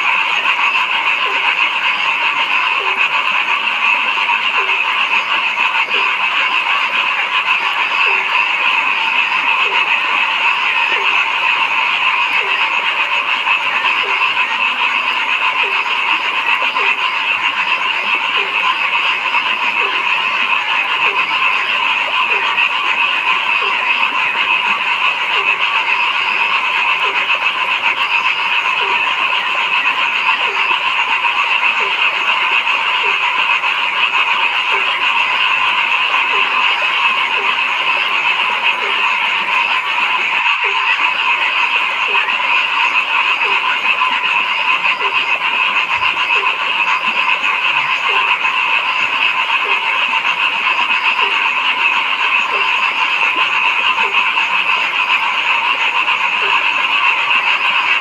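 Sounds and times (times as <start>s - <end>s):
frog low croak: 0.0s - 58.0s
frogs trilling: 0.0s - 58.0s.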